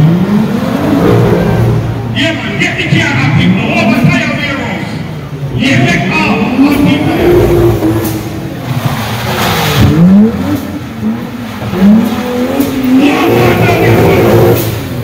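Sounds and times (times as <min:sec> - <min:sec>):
car engine revving: 0:00.0 - 0:04.1, 0:05.1 - 0:15.0.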